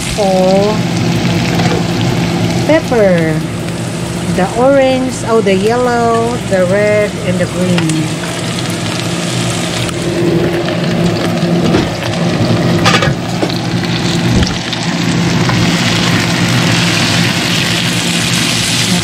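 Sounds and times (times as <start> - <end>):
steady low hum: 0.0 - 19.0
vegetables sizzling in oil: 0.0 - 19.0.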